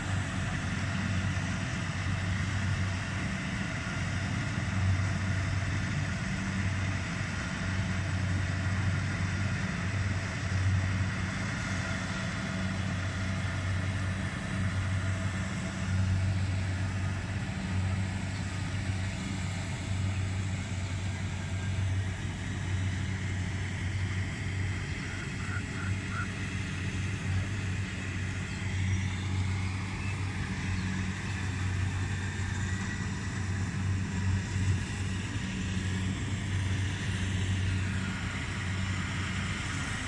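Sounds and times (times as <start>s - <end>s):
combine harvester engine drone: 0.0s - 40.0s
high-pitched whine: 0.0s - 40.0s.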